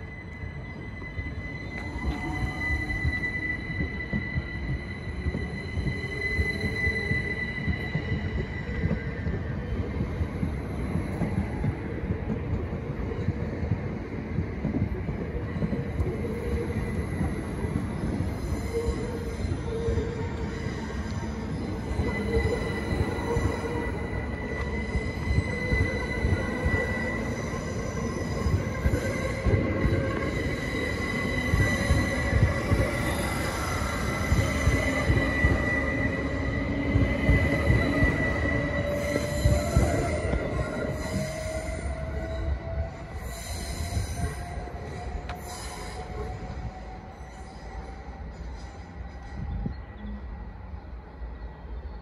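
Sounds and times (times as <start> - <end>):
rumbling train wheels: 0.0 - 52.0.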